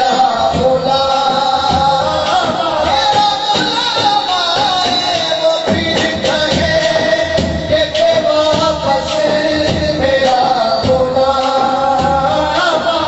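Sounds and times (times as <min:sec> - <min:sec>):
light percussion beat: 0:00.0 - 0:13.0
man singing through a pa: 0:00.0 - 0:13.0.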